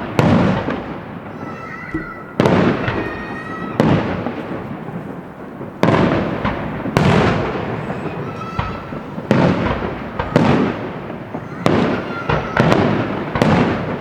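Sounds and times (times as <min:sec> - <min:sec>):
fireworks bangs with echo: 0:00.0 - 0:14.0.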